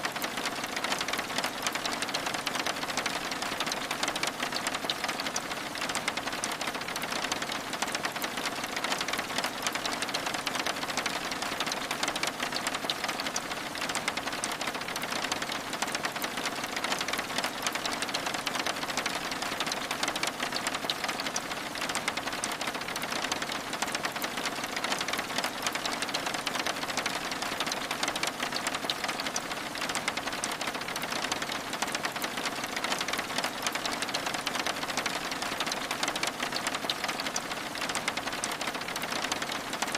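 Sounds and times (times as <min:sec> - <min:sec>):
rain falling on a window: 0:00.0 - 0:39.9.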